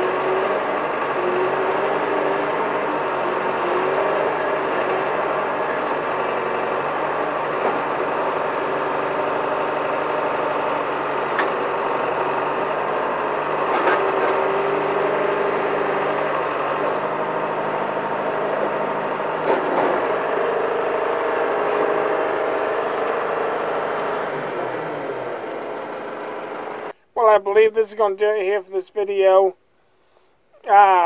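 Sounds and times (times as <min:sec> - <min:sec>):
backhoe engine running: 0:00.0 - 0:27.6.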